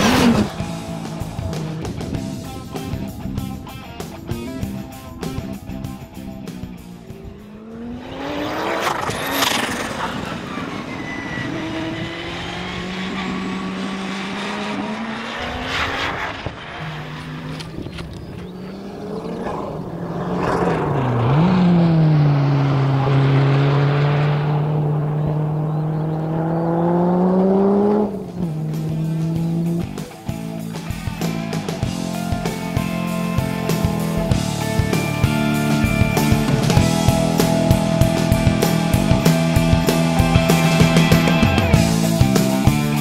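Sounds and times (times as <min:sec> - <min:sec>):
race car engine passing: 0:00.0 - 0:03.0, 0:06.6 - 0:43.0.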